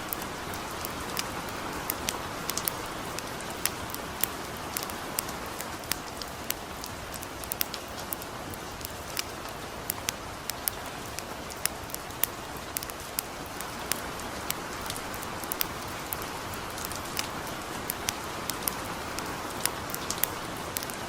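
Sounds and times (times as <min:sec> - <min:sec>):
light rain hissing: 0:00.0 - 0:21.0
wood fire crackling and popping: 0:00.0 - 0:21.0.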